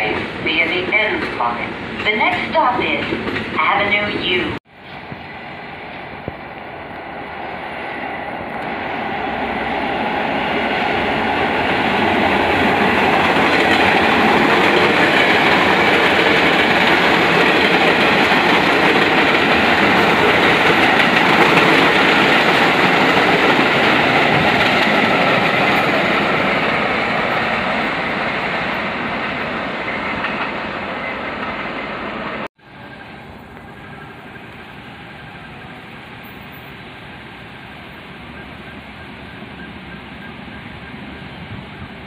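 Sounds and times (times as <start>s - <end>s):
subway train running on rails: 0.0s - 42.0s.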